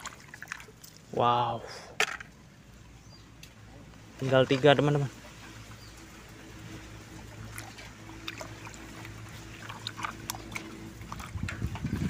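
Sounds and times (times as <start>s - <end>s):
steady low hum: 0.0s - 12.0s
water sloshing and splashing: 0.0s - 12.0s.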